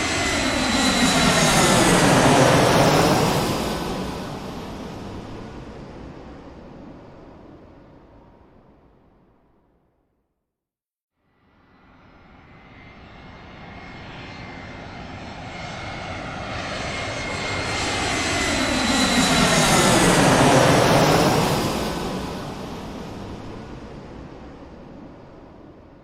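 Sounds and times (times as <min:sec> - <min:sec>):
airplane engine flying over: 0:00.0 - 0:08.5, 0:11.9 - 0:26.0.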